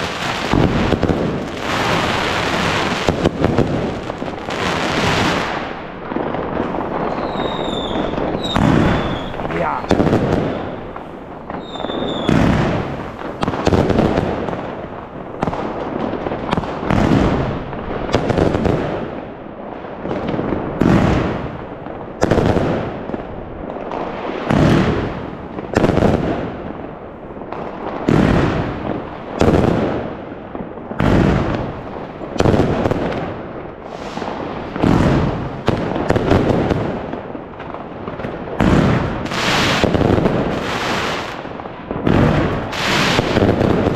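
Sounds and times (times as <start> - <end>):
din of fireworks: 0.0 - 43.9
loud fireworks bangs: 0.0 - 43.9.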